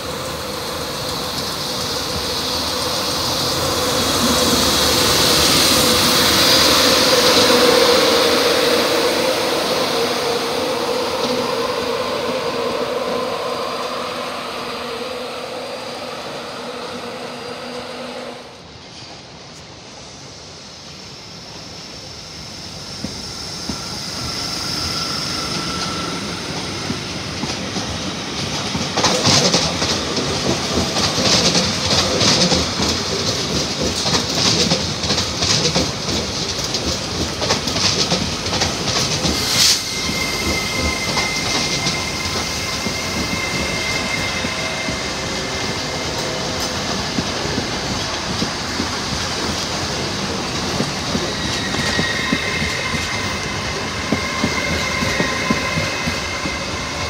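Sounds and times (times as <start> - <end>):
train passing with hum: 0.0 - 57.0.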